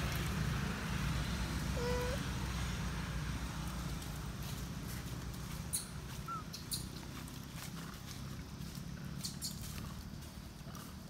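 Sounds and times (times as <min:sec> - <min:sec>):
low forest rumble: 0:00.0 - 0:11.0.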